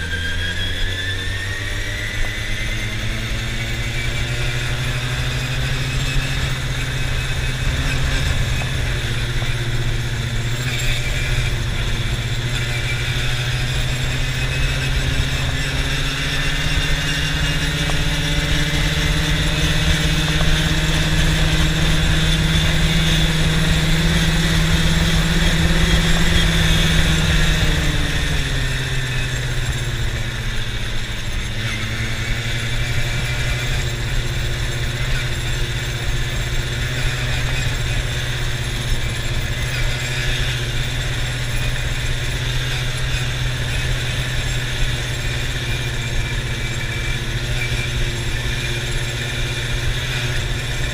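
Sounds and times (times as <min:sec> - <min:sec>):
quad bike engine running: 0:00.0 - 0:50.9.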